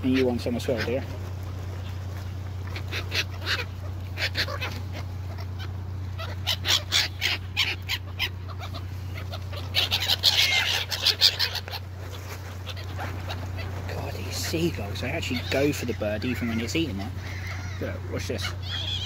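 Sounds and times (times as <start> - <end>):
gulls squawking: 0.0 - 19.0
steady low hum: 0.0 - 19.0.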